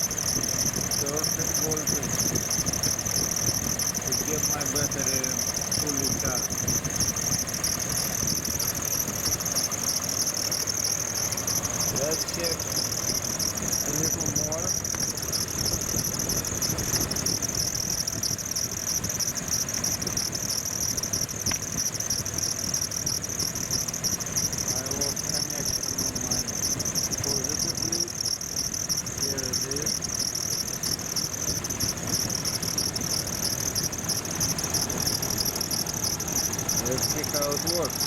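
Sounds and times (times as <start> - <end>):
car engine idling: 0.0 - 38.0
high-pitched chirring: 0.0 - 38.0.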